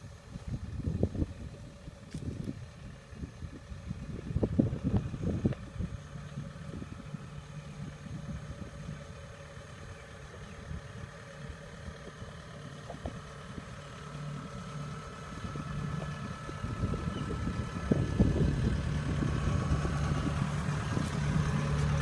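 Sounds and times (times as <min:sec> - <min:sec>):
combine harvester diesel engine: 0:00.0 - 0:22.0.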